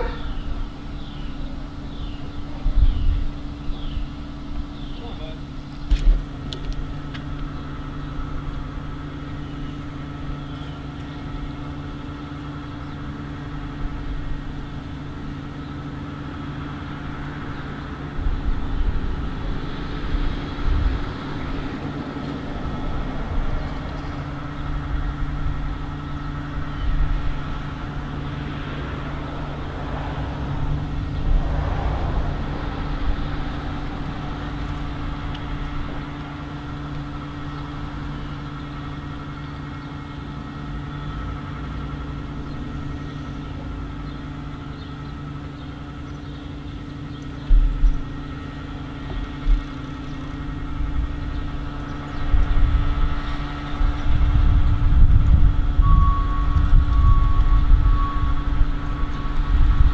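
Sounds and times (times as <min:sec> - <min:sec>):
low mechanical hum: 0:00.0 - 0:59.9
low rumble surges: 0:00.0 - 0:59.9.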